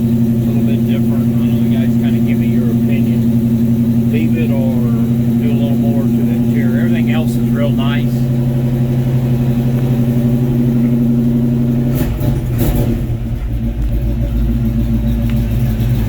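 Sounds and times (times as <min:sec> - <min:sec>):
engine knocks: 0:00.0 - 0:16.0
pickup engine idling: 0:00.0 - 0:16.0.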